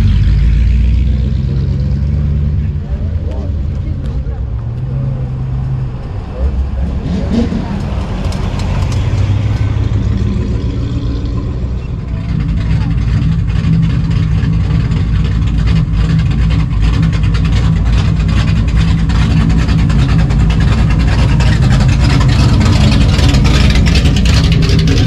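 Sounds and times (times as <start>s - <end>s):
car engines rumbling: 0.0s - 25.0s.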